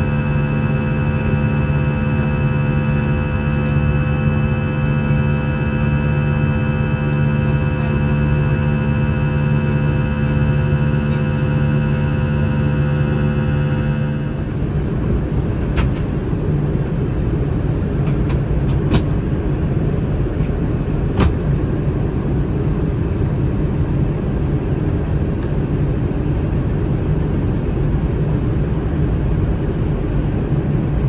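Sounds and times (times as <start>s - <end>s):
aircraft cabin hum: 0.0s - 31.0s.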